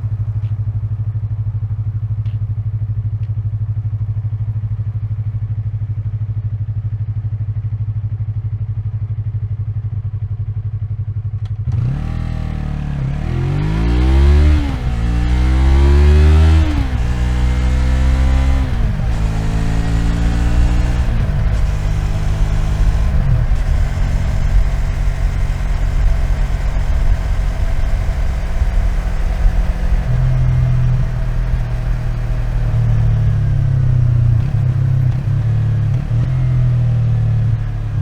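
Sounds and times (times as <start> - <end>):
motorcycle engine revving and idling: 0.0 - 38.0.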